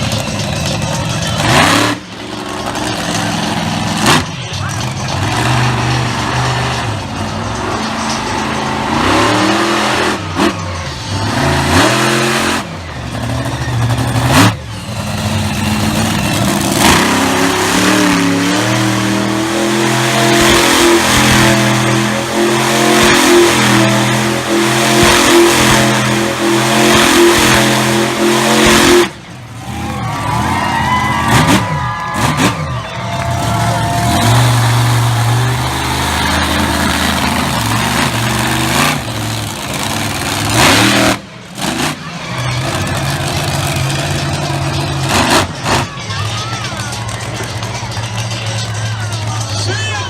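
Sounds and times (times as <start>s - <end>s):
monster truck engine revving: 0.0s - 50.0s
sharp engine bangs: 0.2s - 49.4s.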